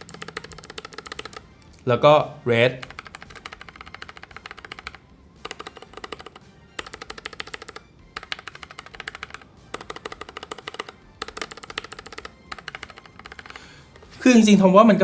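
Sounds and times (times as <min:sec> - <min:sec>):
mechanical keyboard key clacks: 0:00.0 - 0:01.4, 0:02.8 - 0:14.1.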